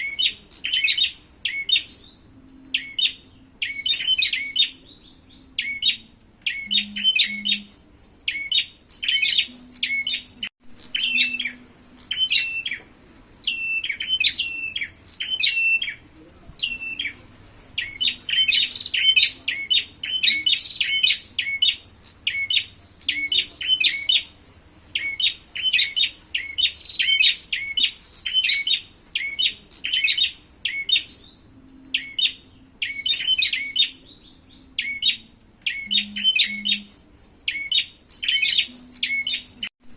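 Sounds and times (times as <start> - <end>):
songbirds chirping sharply: 0.0 - 39.7.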